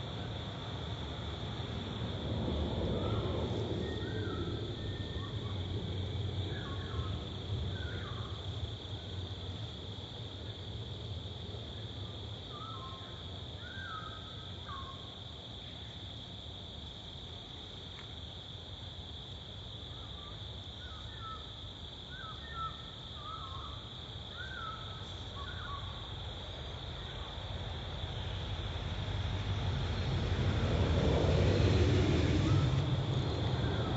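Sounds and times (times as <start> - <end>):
insect drone: 0.0 - 33.9.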